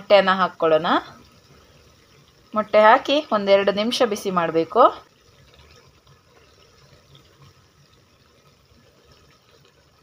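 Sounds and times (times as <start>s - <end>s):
gravy bubbling in wok: 0.0s - 10.0s.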